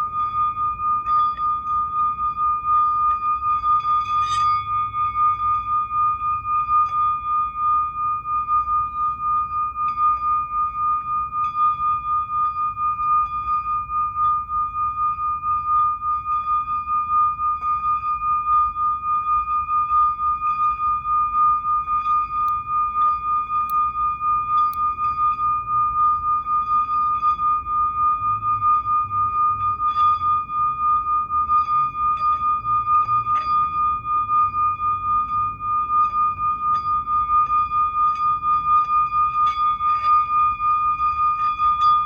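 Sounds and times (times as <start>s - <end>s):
singing bowl ringing: 0.0s - 42.0s.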